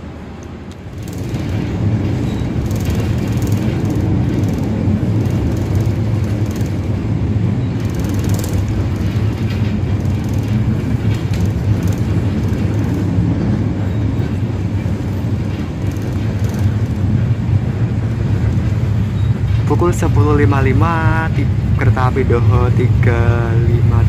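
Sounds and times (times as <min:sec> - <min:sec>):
diesel train running: 0:00.0 - 0:24.0.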